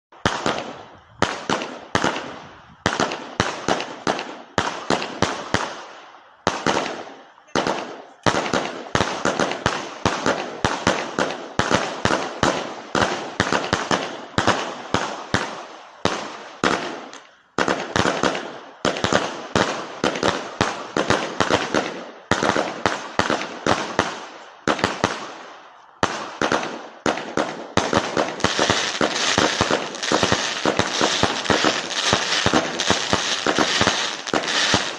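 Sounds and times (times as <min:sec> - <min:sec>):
dense firework crackling: 0:00.1 - 0:34.9
firework shots and bangs: 0:00.1 - 0:34.9.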